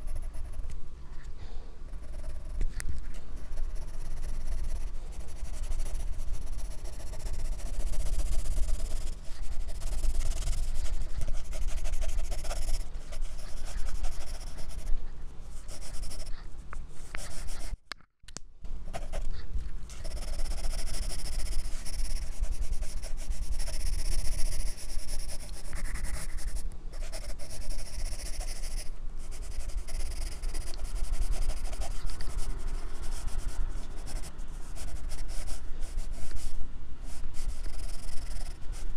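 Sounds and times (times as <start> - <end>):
pencil shading on paper: 0.0 - 0.6, 1.9 - 17.8, 18.9 - 19.4, 20.0 - 38.9.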